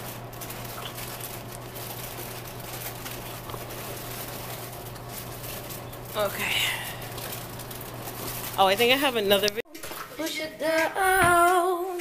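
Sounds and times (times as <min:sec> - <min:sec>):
low constant hum: 0:00.0 - 0:12.0.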